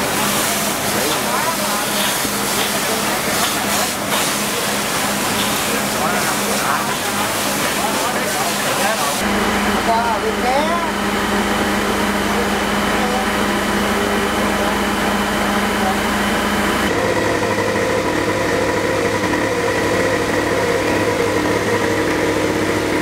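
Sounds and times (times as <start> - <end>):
fire truck engine and pump: 0.0 - 23.0
portable pump engine running: 0.0 - 23.0.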